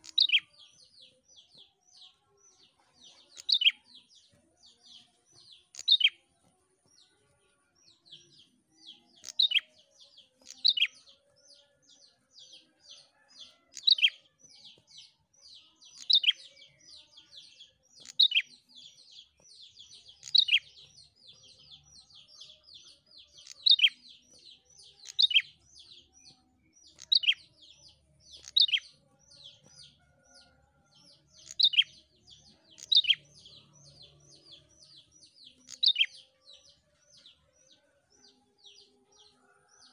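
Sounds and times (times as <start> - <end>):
songbird singing rapid chatter: 0.0 - 7.2, 7.8 - 30.4, 31.0 - 36.8.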